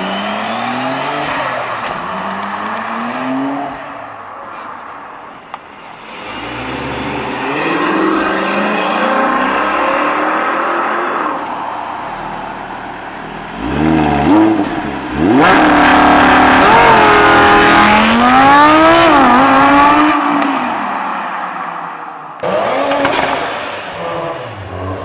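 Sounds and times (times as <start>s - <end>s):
car engine revving and accelerating: 0.0s - 3.9s, 6.0s - 12.5s, 13.1s - 21.1s, 22.4s - 25.0s.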